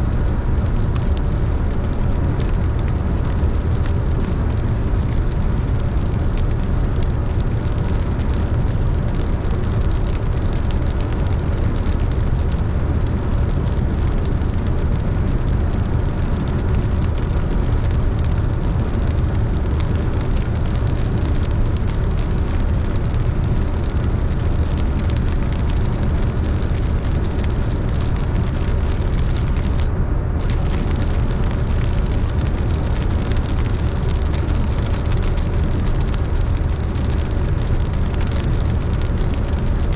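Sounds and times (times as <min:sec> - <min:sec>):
car engine and road rumble: 0:00.0 - 0:39.9
rain and wet tyres hissing: 0:00.0 - 0:39.9.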